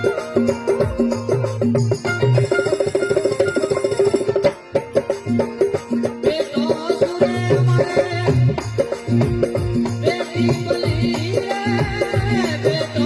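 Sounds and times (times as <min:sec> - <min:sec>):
hand drum beat: 0:00.0 - 0:13.0.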